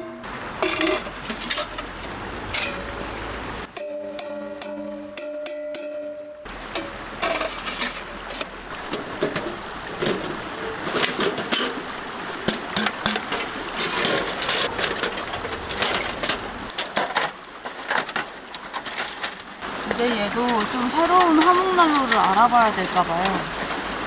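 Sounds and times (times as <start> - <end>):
metal clanks and rattles: 0.0 - 3.0, 3.7 - 23.8.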